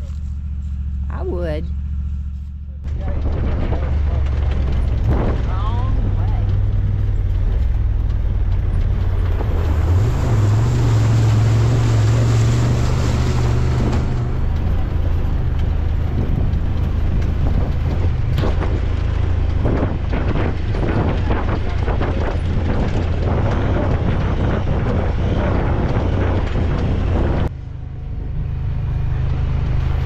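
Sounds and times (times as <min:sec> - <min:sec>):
motorcycle engine running: 0:00.0 - 0:10.6, 0:11.2 - 0:30.0
wind buffeting microphone: 0:02.9 - 0:30.0.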